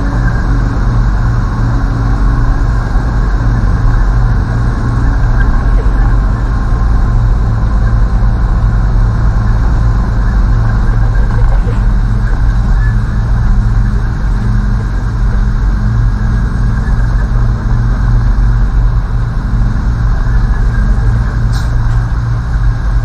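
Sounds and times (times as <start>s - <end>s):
diesel truck engine running: 0.0s - 23.0s
tyres rolling on dirt: 1.2s - 23.0s.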